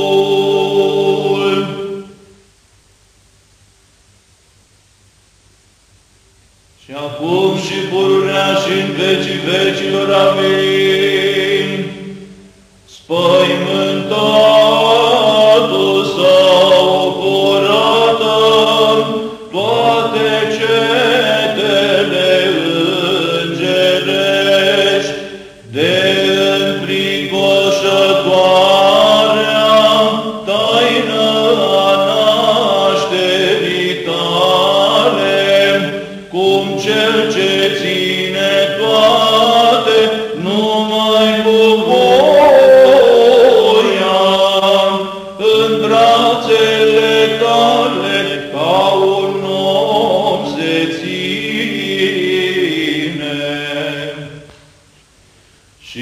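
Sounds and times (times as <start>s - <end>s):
church chant singing: 0.0s - 2.3s, 6.8s - 54.6s.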